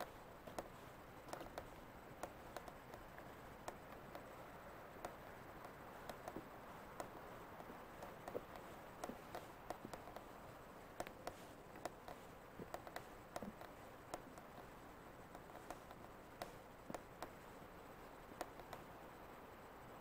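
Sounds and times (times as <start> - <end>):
sharp clicks and ticks: 0.0 - 19.5
quiet steady hiss: 0.0 - 20.0.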